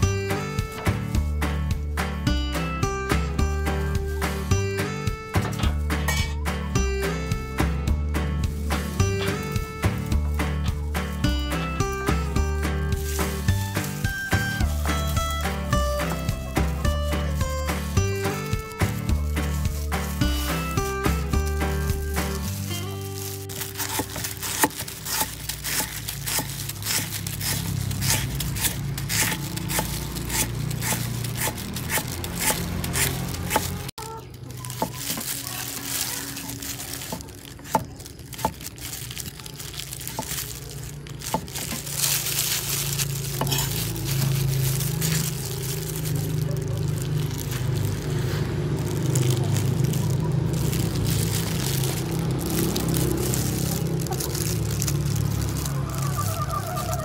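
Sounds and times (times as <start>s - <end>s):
background music: 0.0s - 57.0s.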